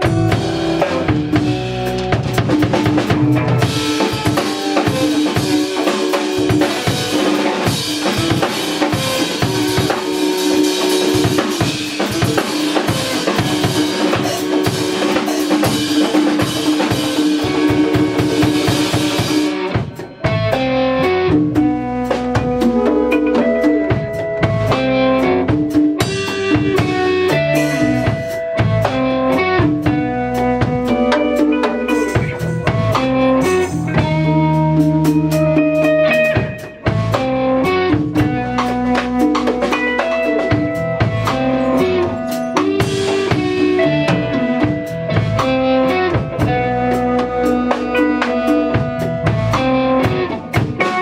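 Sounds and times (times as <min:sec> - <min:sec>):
drum kit beat: 0:00.0 - 0:51.0
guitar melody: 0:00.0 - 0:51.0.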